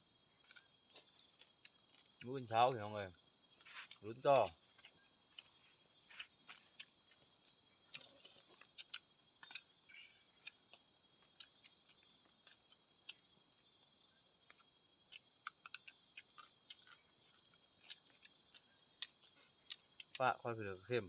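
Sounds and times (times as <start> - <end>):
crickets and insects buzzing: 0.0 - 21.0.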